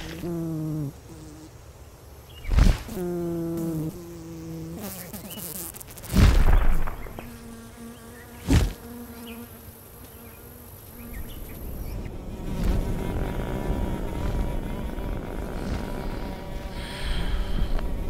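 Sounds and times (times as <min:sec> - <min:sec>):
flying insect buzzing: 0:00.0 - 0:18.0.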